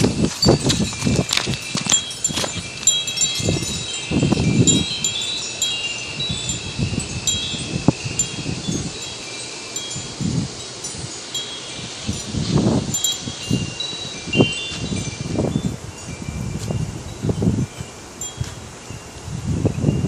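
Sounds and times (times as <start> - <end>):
wind chimes tinkling: 0.0 - 20.0
wind gusts on microphone: 0.0 - 20.0.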